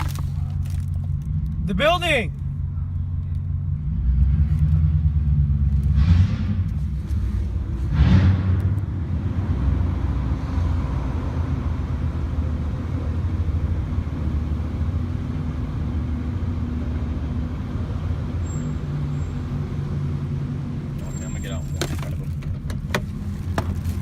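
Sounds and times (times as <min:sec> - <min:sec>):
vehicle engine and road drone: 0:00.0 - 0:24.0.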